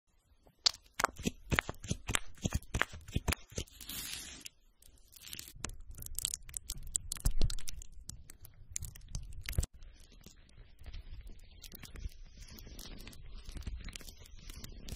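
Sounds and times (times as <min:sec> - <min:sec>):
spatula crackling on sponge: 0:00.6 - 0:14.9.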